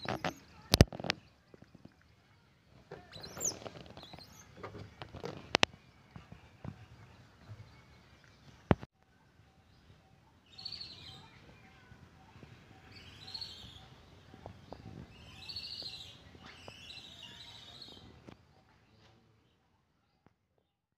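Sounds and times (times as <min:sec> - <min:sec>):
small birds chirping: 0:00.0 - 0:20.3.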